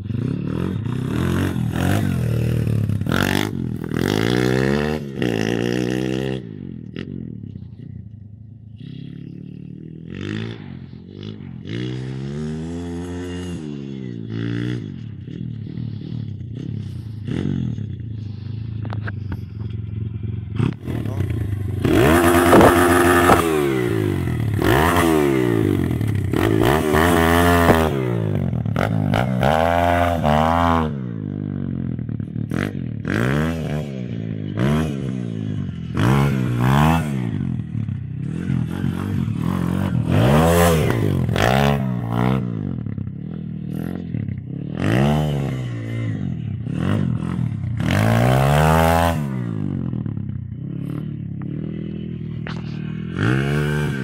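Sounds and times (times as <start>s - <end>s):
motorbike engine revving: 0.0s - 7.9s, 8.7s - 54.0s.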